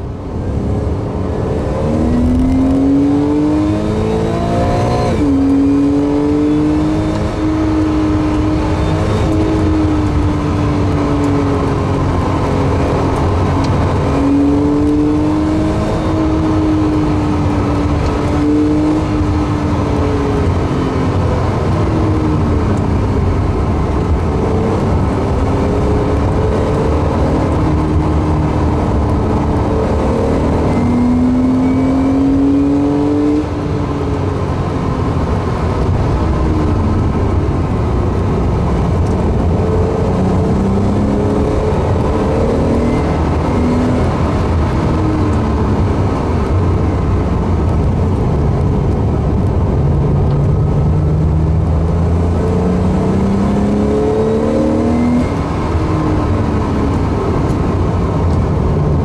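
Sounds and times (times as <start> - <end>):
car engine revving: 0.0 - 59.0
road and tyre noise: 0.0 - 59.0.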